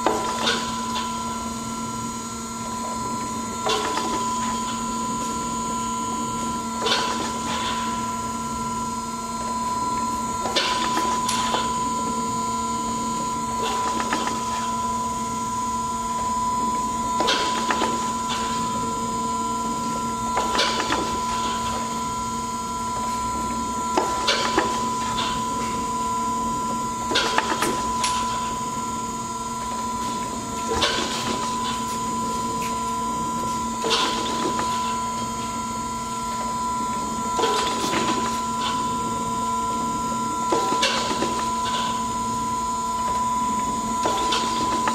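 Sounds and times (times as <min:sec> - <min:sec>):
surface grinder hydraulic hum: 0:00.0 - 0:44.9.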